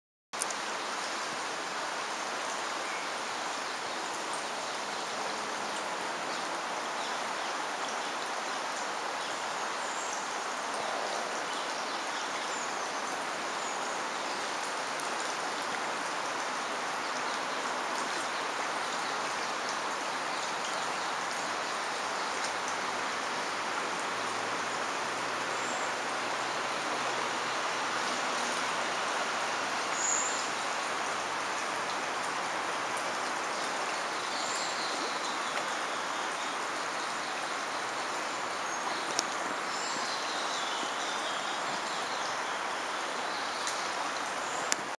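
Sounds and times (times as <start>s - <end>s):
stream water rushing: 0.4s - 44.9s.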